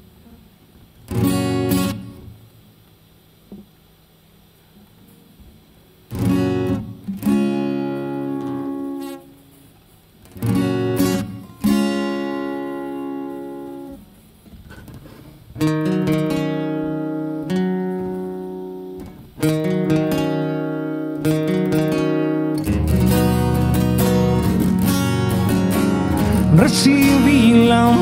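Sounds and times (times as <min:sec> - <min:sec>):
acoustic guitar chords ringing: 0:01.1 - 0:02.6, 0:06.0 - 0:28.0.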